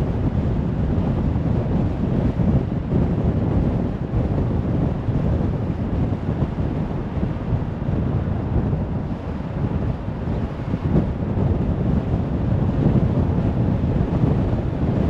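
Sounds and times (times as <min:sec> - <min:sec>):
wind rushing past car: 0:00.0 - 0:15.0.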